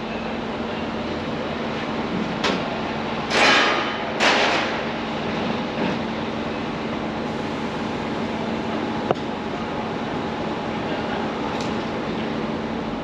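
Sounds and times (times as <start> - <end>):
construction machinery humming: 0.0 - 13.0.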